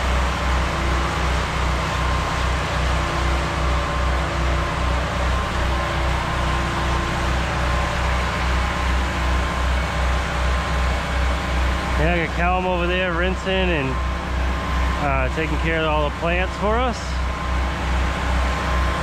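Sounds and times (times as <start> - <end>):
pressure washer motor throbbing: 0.0 - 19.0.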